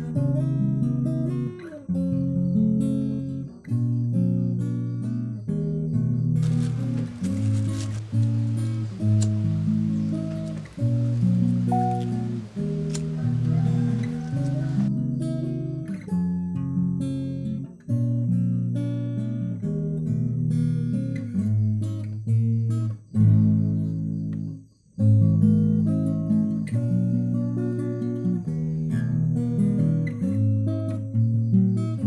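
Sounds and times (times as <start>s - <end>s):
acoustic guitar music: 0.0s - 32.0s.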